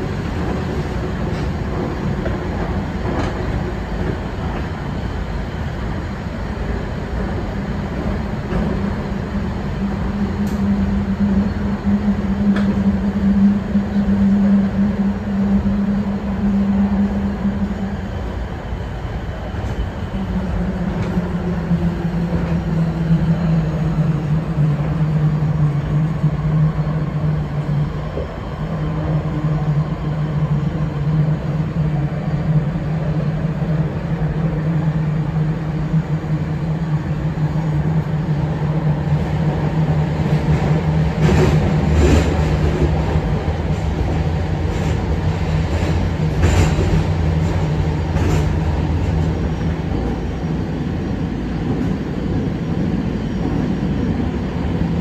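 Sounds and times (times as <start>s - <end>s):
train low hum: 0.0s - 55.0s
wheels rumbling on rails: 0.0s - 55.0s.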